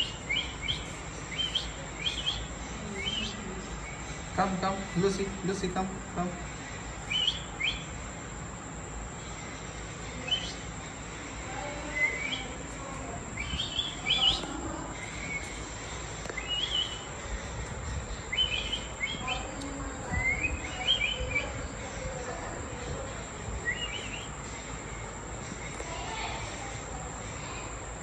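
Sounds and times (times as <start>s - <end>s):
low background hum: 0.0s - 28.0s
small birds chirping: 0.0s - 28.0s.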